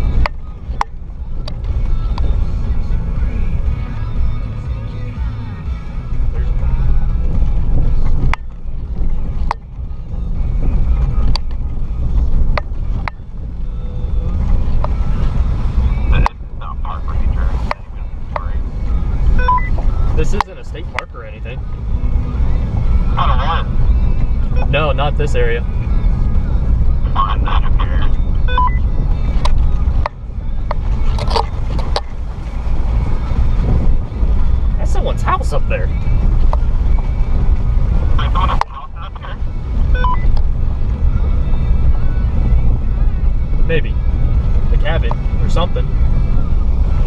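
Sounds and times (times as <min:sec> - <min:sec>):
vehicle engine rumble: 0:00.0 - 0:47.0.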